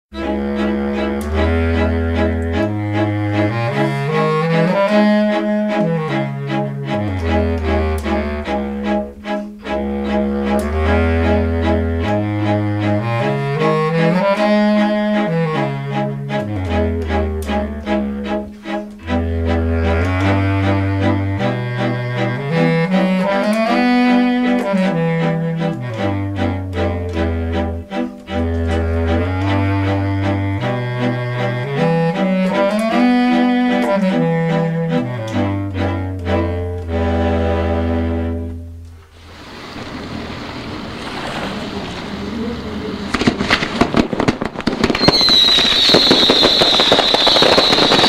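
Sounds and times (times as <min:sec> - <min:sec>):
instrumental background music: 0:00.1 - 0:39.1
low bass line: 0:00.1 - 0:41.0
bowed strings playing: 0:00.1 - 0:42.7.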